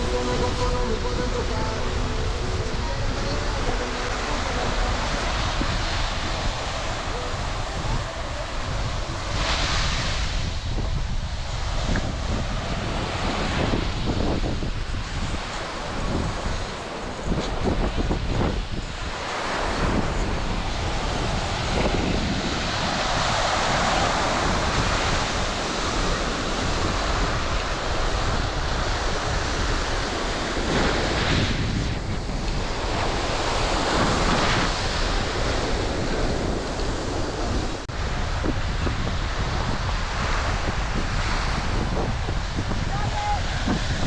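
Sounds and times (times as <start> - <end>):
ocean waves breaking: 0.0 - 44.0
wind rumbling on microphone: 0.0 - 44.0.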